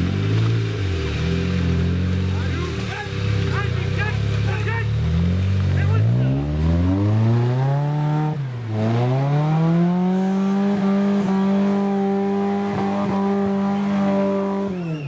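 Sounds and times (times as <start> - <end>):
engine revving hard: 0.0 - 15.0.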